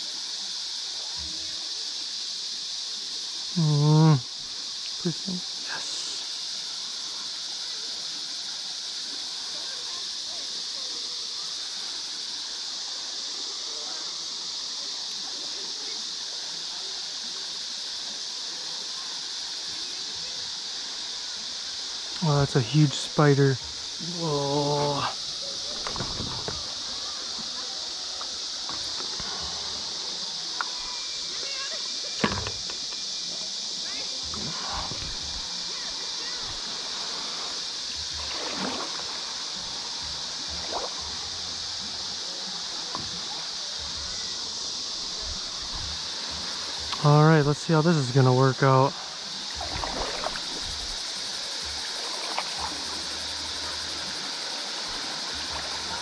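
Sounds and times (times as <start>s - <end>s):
insects buzzing: 0.0s - 56.0s
soft water splashes: 4.4s - 47.6s, 48.9s - 56.0s.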